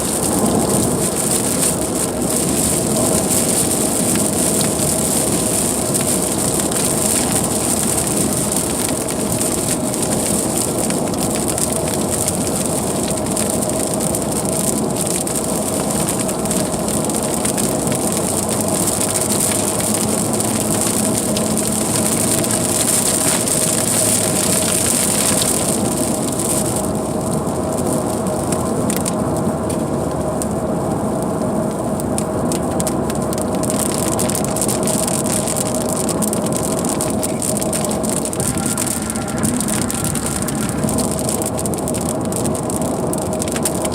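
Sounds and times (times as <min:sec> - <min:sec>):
rain hitting car: 0:00.0 - 0:43.9
tyres hissing on wet road: 0:00.0 - 0:43.9.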